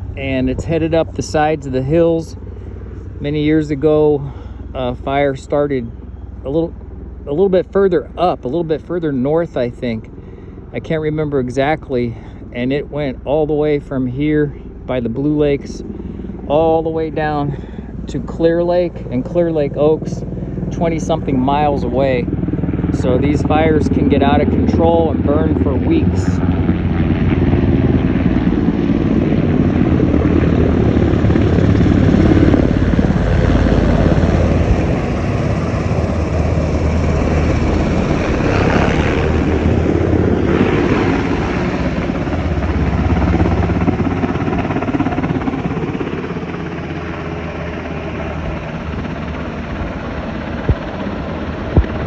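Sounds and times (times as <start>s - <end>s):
helicopter rotor beat: 0.0s - 52.0s.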